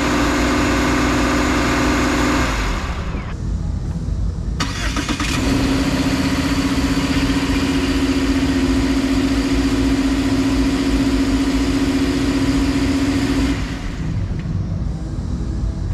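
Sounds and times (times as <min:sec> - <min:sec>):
car engine running: 0:00.0 - 0:15.9.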